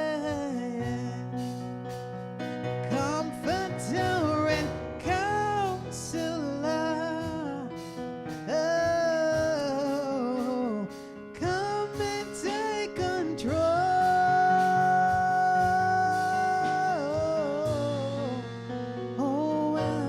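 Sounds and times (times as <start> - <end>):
solo voice singing gospel: 0.0 - 2.0, 2.8 - 20.0
instrumental accompaniment: 0.0 - 20.0.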